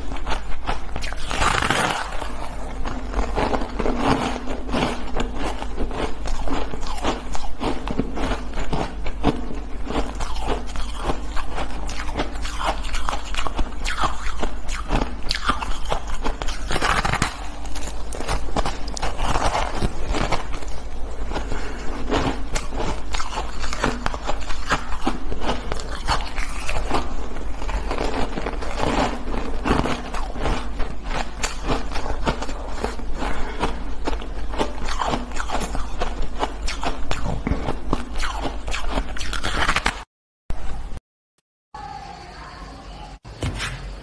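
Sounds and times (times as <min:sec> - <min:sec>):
ice crunching while chewed: 0:00.0 - 0:40.1.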